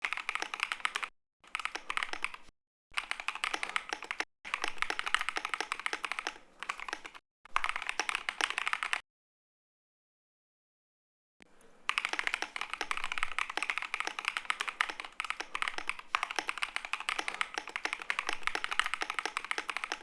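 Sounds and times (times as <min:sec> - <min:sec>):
mechanical keyboard typing: 0:00.0 - 0:09.0, 0:11.9 - 0:20.0.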